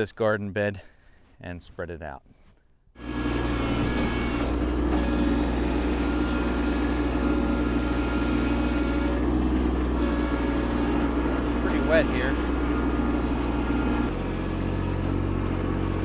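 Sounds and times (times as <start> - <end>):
tractor diesel engine droning: 3.0 - 16.0.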